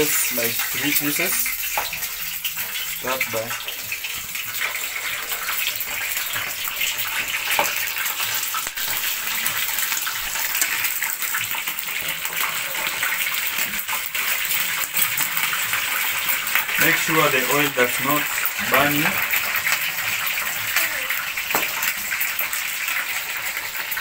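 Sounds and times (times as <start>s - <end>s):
chicken deep-frying with crackling: 0.0s - 24.0s.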